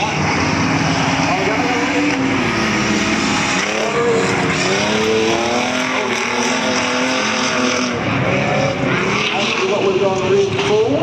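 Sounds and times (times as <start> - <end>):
faint tyre skidding: 0.0 - 11.0
race car engines revving: 0.0 - 11.0.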